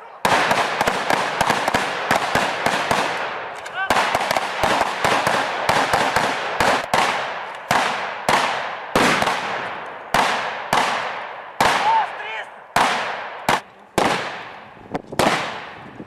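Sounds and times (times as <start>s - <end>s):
gunshots with echo: 0.2s - 15.8s.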